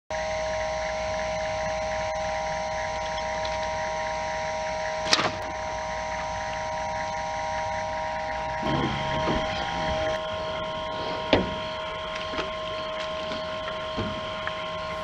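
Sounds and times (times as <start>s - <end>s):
mechanical hum with high tones: 0.1s - 15.0s.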